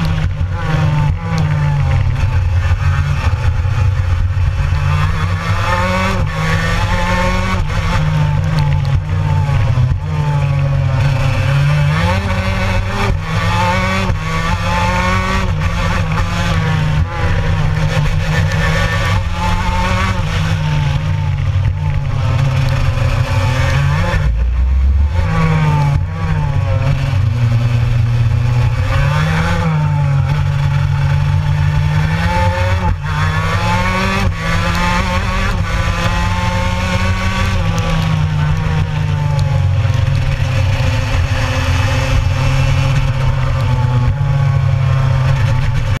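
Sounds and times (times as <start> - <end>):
kart engine running hard: 0.0 - 46.0.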